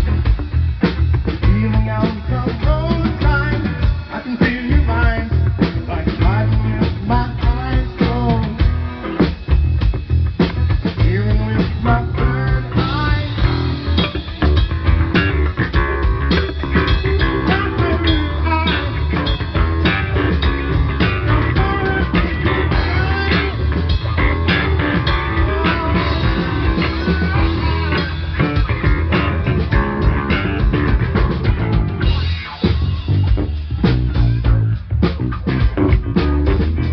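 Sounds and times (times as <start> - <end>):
bass guitar: 0.0 - 36.9
drum kit: 0.0 - 36.9
electric guitar: 0.0 - 36.9.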